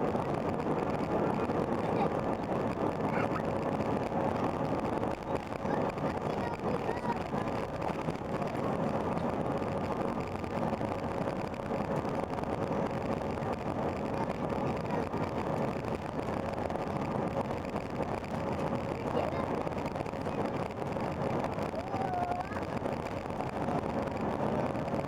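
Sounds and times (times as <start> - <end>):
airplane cabin jet engine hum: 0.0 - 25.0
faint steady whine: 0.0 - 25.0.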